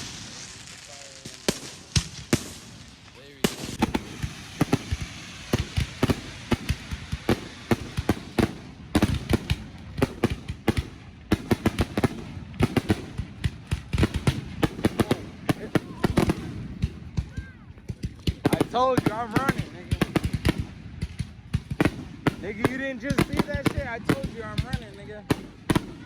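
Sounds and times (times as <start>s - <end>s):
fireworks cracks and pops: 0.0s - 26.0s.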